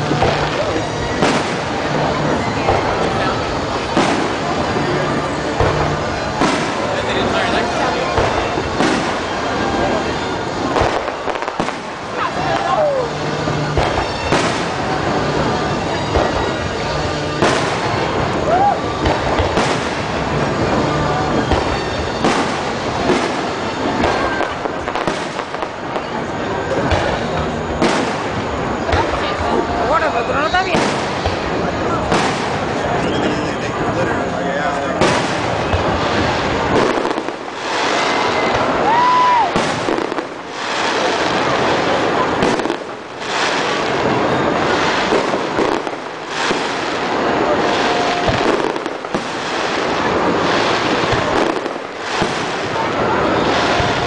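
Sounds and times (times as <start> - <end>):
fireworks bangs: 0.0 - 54.0
fireworks crackling: 0.0 - 54.0.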